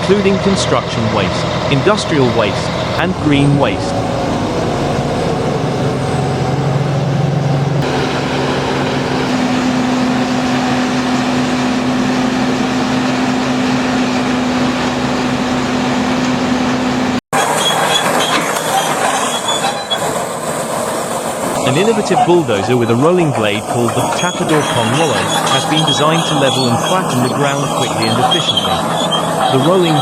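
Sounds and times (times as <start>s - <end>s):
heavy machinery running: 0.0s - 30.0s.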